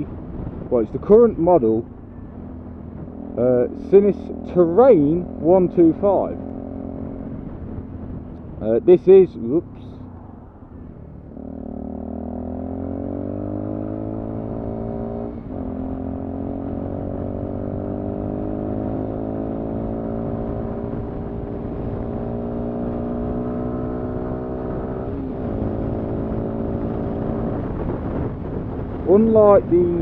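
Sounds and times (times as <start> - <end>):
motorcycle engine accelerating: 0.0 - 8.8, 9.4 - 30.0.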